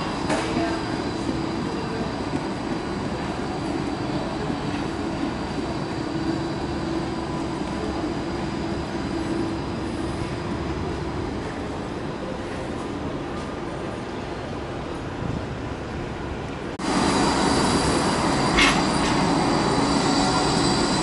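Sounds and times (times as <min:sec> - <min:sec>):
tram electric hum and rumble: 0:00.0 - 0:21.0.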